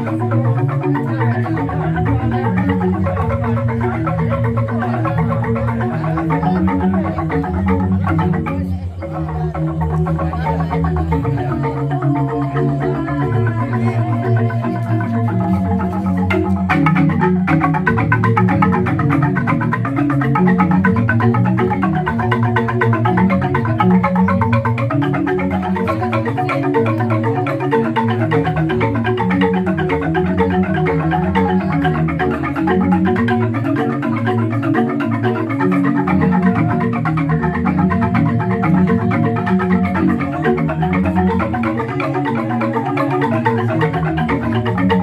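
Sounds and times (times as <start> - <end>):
bamboo xylophones interlocking strikes: 0.0 - 45.0.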